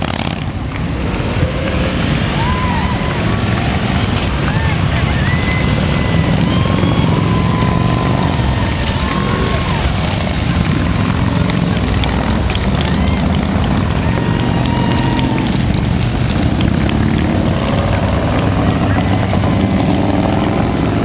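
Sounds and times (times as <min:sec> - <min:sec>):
motorcycle engines rumbling: 0:00.0 - 0:21.0.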